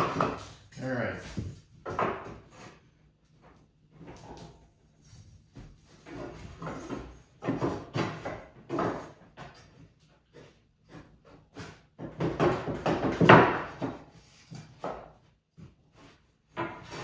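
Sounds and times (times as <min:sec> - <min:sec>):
wooden boards knocking and scraping: 0:00.0 - 0:02.9, 0:05.6 - 0:17.0.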